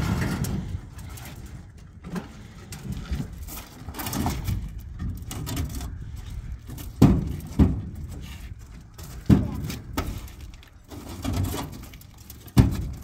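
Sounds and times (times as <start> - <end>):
footsteps on metal truck bed: 0.0 - 13.0.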